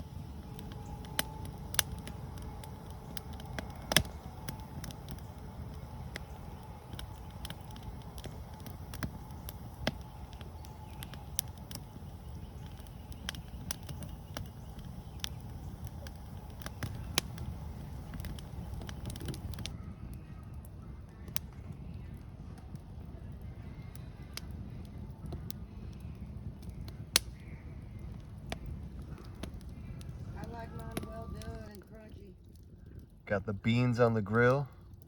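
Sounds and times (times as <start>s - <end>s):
campfire crackling and popping: 0.0s - 35.0s
low steady rumble: 0.0s - 35.0s.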